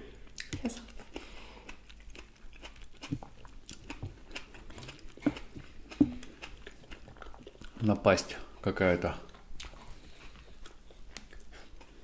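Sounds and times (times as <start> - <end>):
person chewing toast: 0.1 - 7.9, 9.2 - 12.0
mouth clicks and smacks: 0.3 - 7.8, 9.3 - 12.0.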